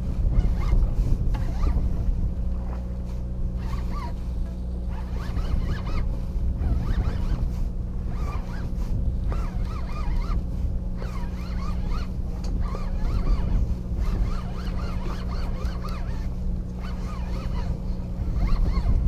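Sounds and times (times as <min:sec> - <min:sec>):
boat engine droning: 0:00.0 - 0:19.0
fishing reel being cranked: 0:00.3 - 0:01.9, 0:03.6 - 0:04.2, 0:04.9 - 0:19.0.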